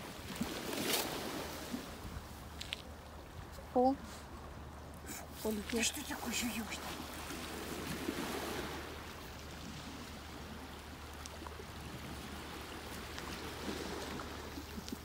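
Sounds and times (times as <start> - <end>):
sea waves lapping over pebbles: 0.0 - 2.9, 5.0 - 15.0.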